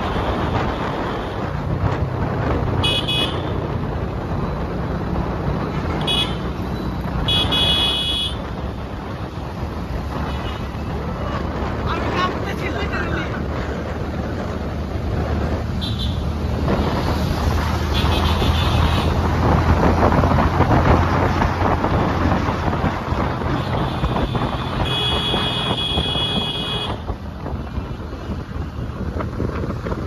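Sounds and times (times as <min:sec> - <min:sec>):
wind buffeting microphone: 0:00.0 - 0:02.8, 0:08.4 - 0:30.0
vehicle road and engine noise: 0:00.0 - 0:30.0.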